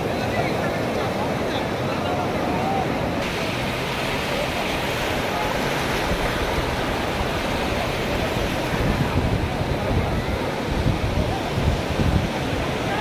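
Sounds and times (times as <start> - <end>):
sea surf washing up a beach: 0.0 - 13.0
voices of a beach crowd: 0.0 - 13.0
wind buffeting the microphone: 0.0 - 13.0.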